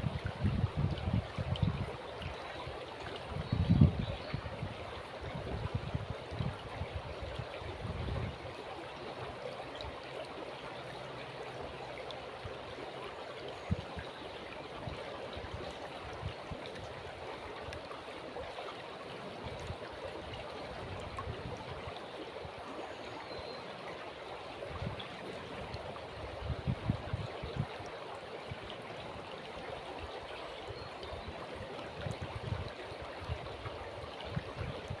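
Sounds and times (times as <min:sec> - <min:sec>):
river water babbling: 0:00.0 - 0:35.0.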